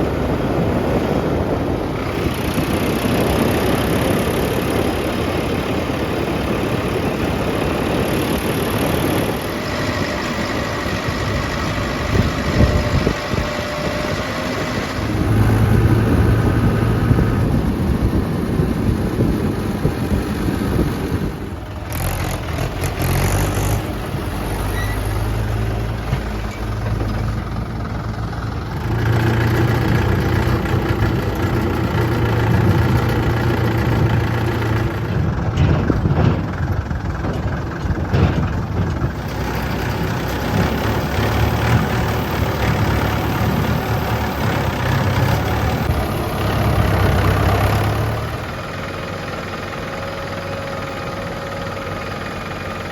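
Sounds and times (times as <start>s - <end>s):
heavy diesel engines running: 0.0s - 52.9s.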